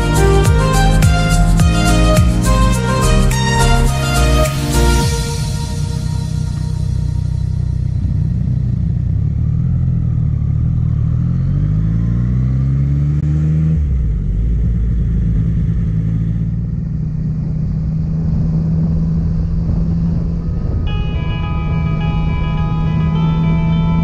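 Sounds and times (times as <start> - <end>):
motorcycle engine revving: 0.0 - 24.0
road and wind noise: 0.0 - 24.0.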